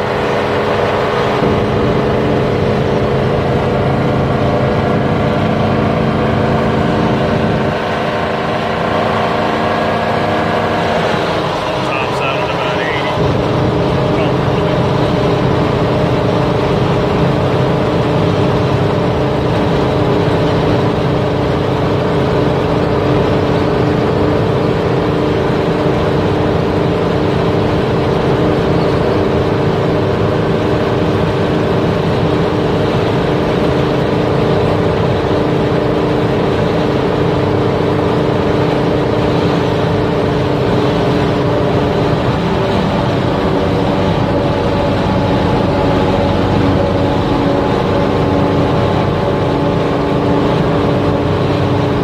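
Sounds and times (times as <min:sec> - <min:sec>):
car engine cruising: 0:00.0 - 0:52.0
road and wind noise: 0:00.0 - 0:52.0.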